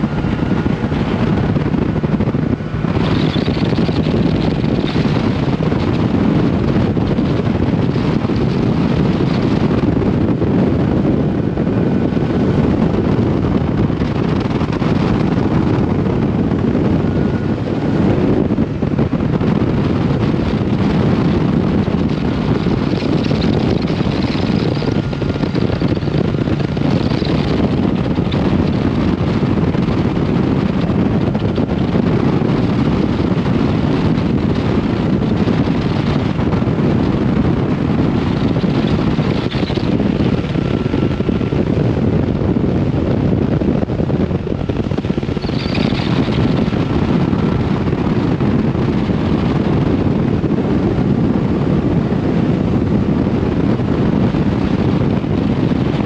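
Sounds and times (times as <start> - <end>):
boat engine running: 0.0 - 56.0
wind rushing on microphone: 0.0 - 56.0.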